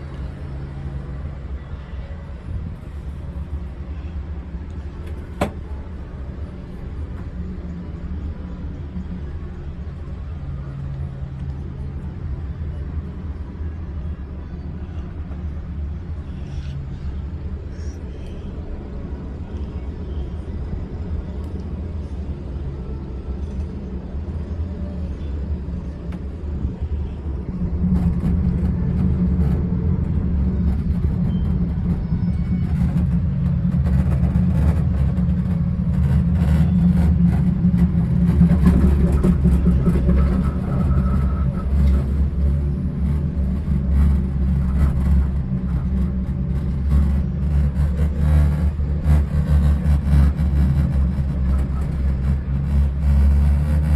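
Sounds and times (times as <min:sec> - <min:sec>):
cable car low rumble: 0:00.0 - 0:53.9.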